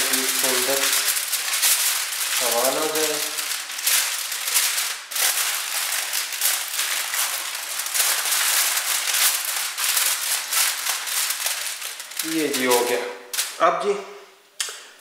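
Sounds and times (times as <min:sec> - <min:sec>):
aluminium foil crinkling: 0:00.0 - 0:13.6.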